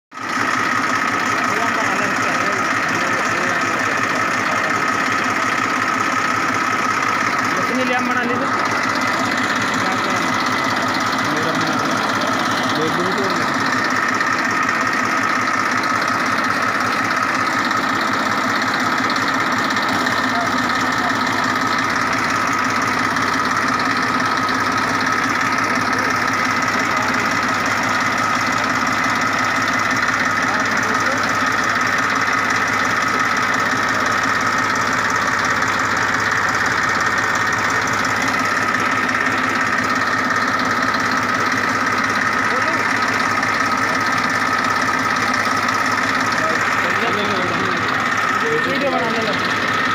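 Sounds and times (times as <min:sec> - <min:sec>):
tractor diesel engine idling: 0:00.1 - 0:49.9.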